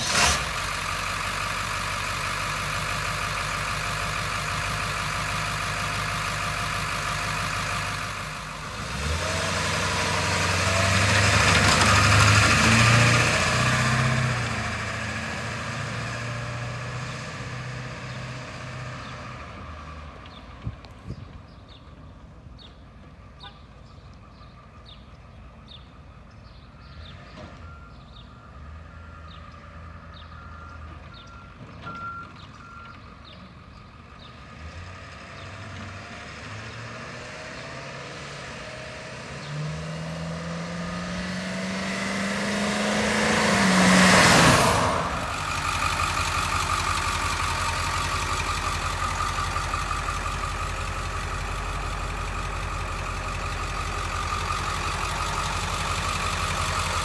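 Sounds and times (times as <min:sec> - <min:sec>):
diesel engine idling: 0:00.0 - 0:34.6, 0:40.8 - 0:57.0
diesel truck driving past: 0:00.0 - 0:57.0.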